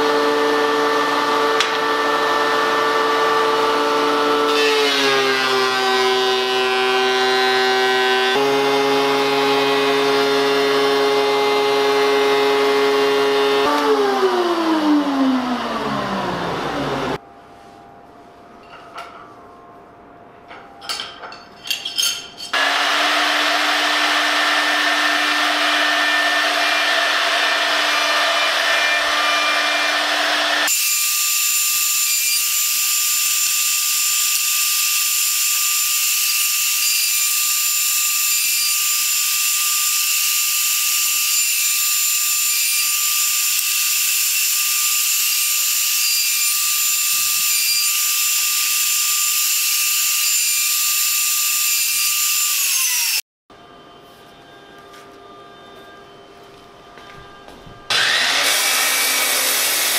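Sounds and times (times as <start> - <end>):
router bit cutting wood: 0.0 - 17.2, 22.6 - 53.2, 57.9 - 59.9
router whining: 0.0 - 17.2, 22.6 - 53.2, 57.3 - 59.9.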